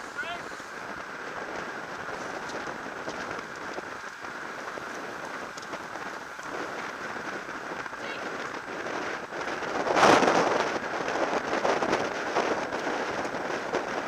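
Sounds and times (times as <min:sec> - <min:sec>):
bike tyres rolling on tarmac: 0:00.0 - 0:14.0
wind rushing over microphone: 0:00.0 - 0:14.0.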